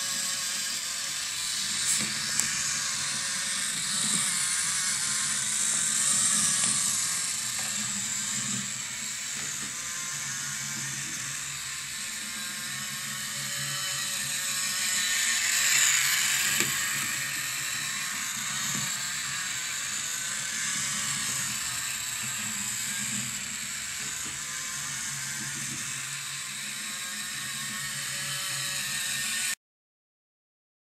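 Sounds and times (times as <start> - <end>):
small electric motor whirring: 0.0 - 29.6.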